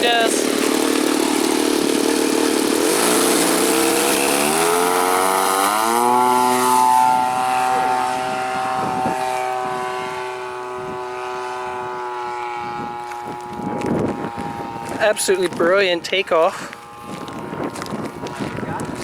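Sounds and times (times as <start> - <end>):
model airplane engine at full throttle: 0.0 - 19.0.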